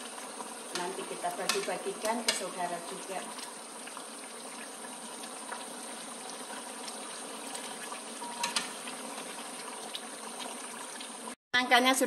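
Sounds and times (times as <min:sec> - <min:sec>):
curry bubbling in a pan: 0:00.0 - 0:11.4
wooden spatula stirring: 0:00.4 - 0:10.9.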